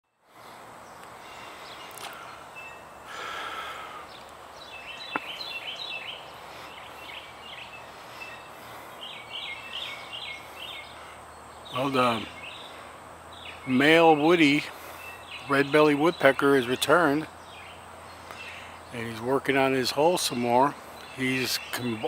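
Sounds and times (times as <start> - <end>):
outdoor background noise: 0.0 - 22.0
small birds chirping: 0.1 - 22.0.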